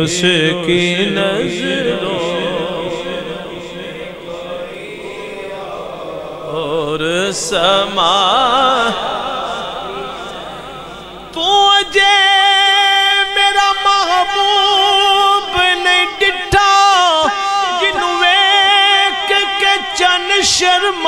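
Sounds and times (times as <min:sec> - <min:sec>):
man singing over a pa system: 0:00.0 - 0:21.0.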